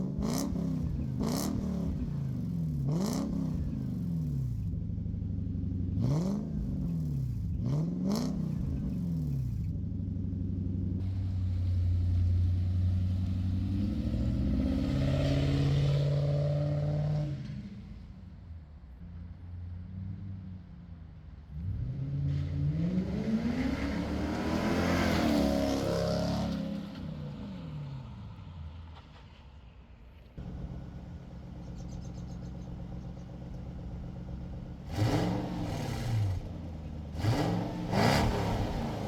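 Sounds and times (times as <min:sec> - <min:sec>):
car engine revving: 0:00.0 - 0:09.7, 0:10.6 - 0:17.5, 0:21.6 - 0:28.4, 0:30.4 - 0:39.0.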